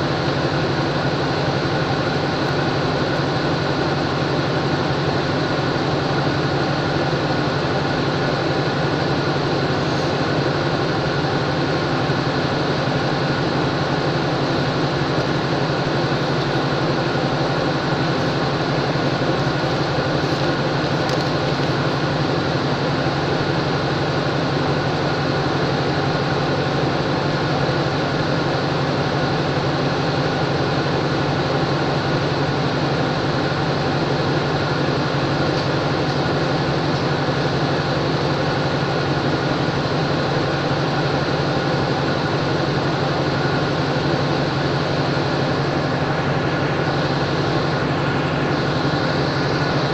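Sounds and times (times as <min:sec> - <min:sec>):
diesel locomotive engine idling: 0:00.0 - 0:49.9.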